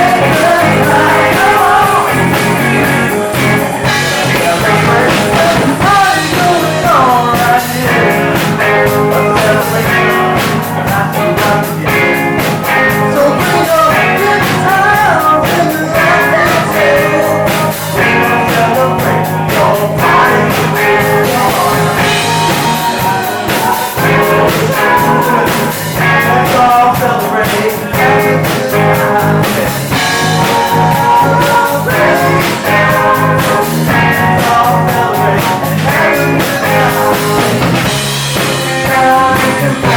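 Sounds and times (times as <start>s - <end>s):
electric guitar: 0.0s - 39.9s
live rock band playing: 0.0s - 39.9s
person singing: 0.0s - 39.9s.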